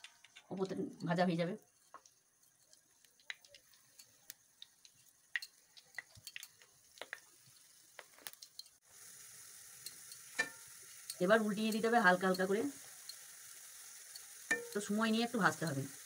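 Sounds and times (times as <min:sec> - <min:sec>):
dough frying in oil: 0:00.0 - 0:16.0.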